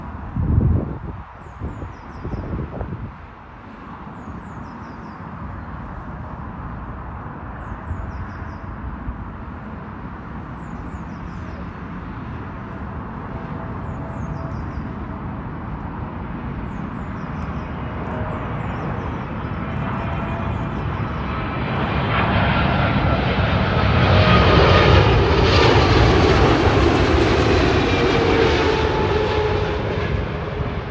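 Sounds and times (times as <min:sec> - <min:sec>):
jet airliner engines rumbling: 0:00.0 - 0:30.9
jet engine whine: 0:00.0 - 0:30.9.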